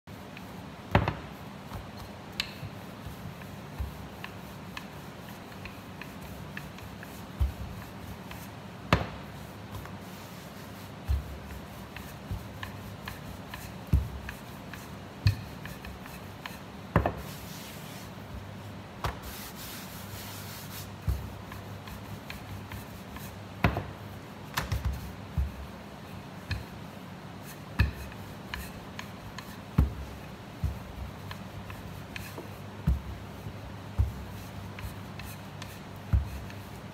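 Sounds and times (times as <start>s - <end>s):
low steady hum: 0.1s - 36.9s
rolling pin rubbing dough: 0.1s - 36.9s.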